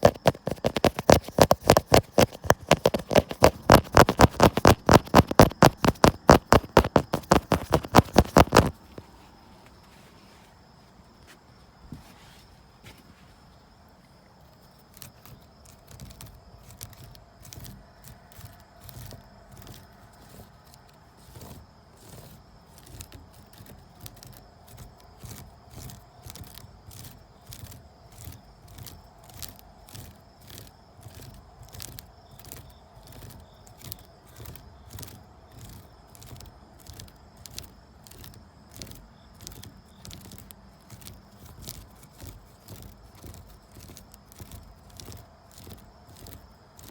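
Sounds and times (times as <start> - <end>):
rope being scratched: 0.0 - 9.0, 14.9 - 46.9.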